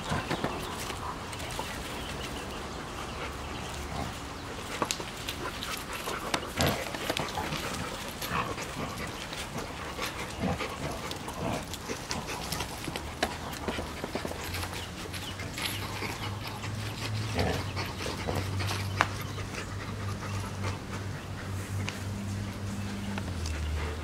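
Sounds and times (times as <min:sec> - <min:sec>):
dogs vocalizing while playing: 0:00.0 - 0:24.0.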